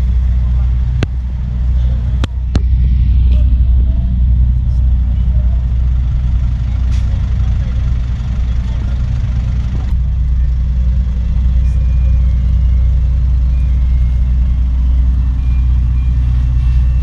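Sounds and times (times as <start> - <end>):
diesel engines idling: 0.0 - 17.0.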